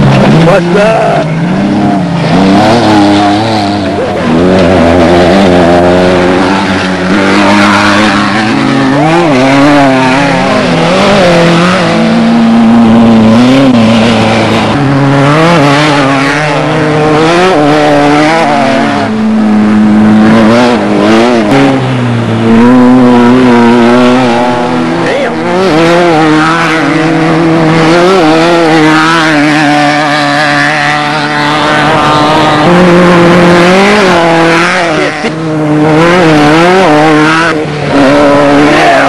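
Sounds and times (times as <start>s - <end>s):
race vehicle engine revving: 0.0s - 39.0s.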